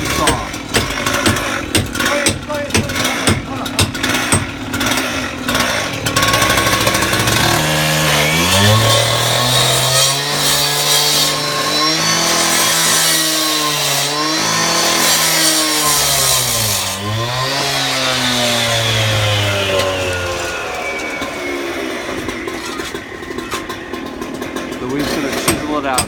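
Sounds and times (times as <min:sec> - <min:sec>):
power saw cutting masonry: 0:00.0 - 0:26.0.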